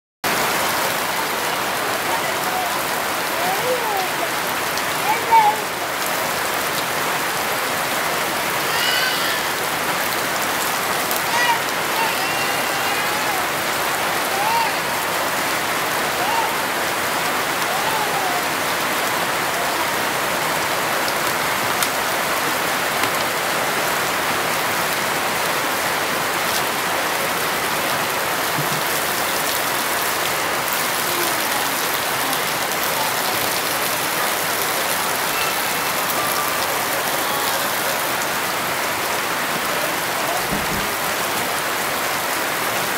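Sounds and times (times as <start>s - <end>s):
water pouring and splashing: 2.9s - 42.9s.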